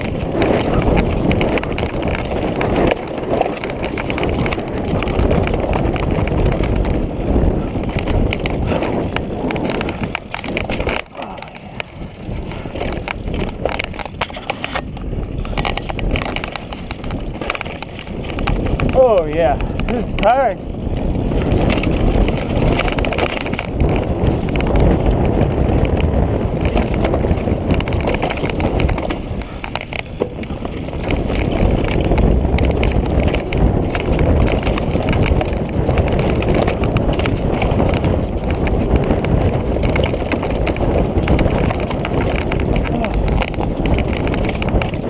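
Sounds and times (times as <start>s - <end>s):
bike frame rattling and knocking: 0.0s - 45.0s
bike tyres on dirt: 0.0s - 45.0s.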